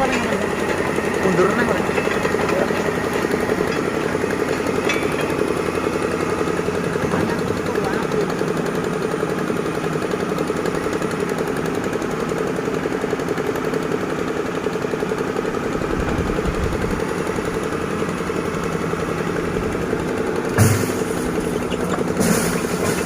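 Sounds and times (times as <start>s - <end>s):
heavy diesel engine chugging: 0.0s - 23.0s.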